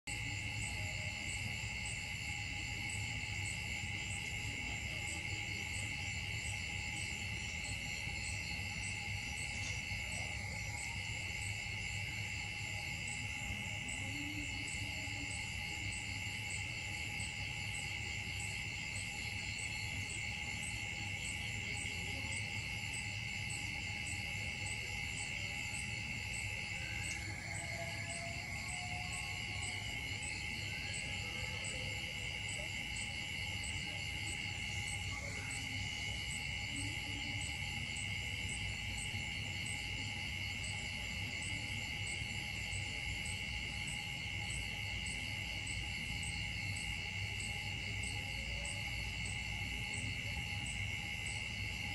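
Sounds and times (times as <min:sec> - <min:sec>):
insects droning: 0:00.1 - 0:51.9.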